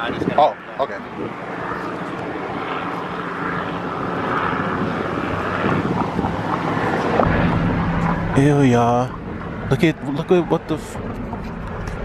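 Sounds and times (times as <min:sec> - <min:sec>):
engine drone with low hum: 0:00.0 - 0:12.0.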